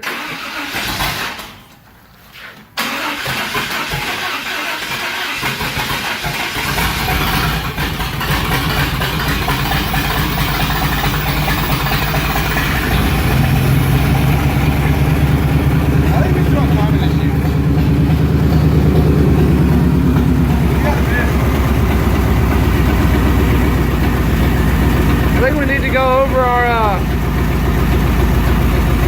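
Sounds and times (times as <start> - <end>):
starter motor cranking: 0.0 - 1.6, 2.8 - 29.0
truck engine idling: 4.2 - 29.0.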